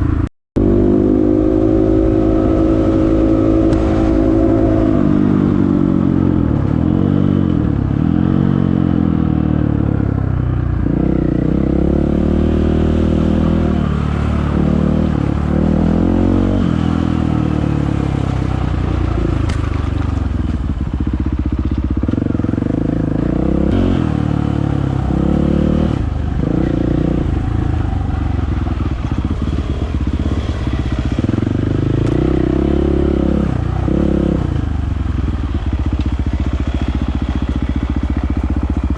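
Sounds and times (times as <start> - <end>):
dirt bike engine revving: 0.6 - 10.0, 10.8 - 18.2, 22.0 - 38.9.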